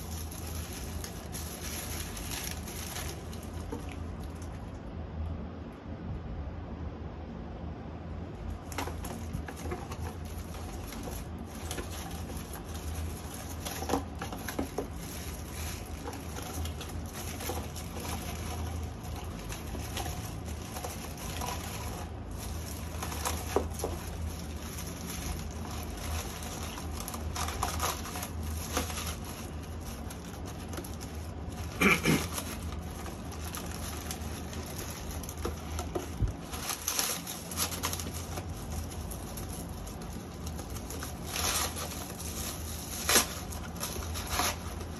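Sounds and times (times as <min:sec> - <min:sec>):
packing paper rustling: 0:00.0 - 0:04.8, 0:08.4 - 0:44.9
steady low hum: 0:00.0 - 0:44.9.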